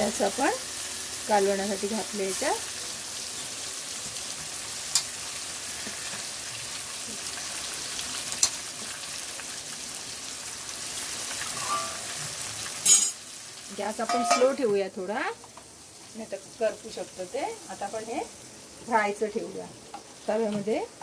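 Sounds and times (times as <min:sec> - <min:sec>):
hot oil sizzling in a pot: 0:00.0 - 0:21.0.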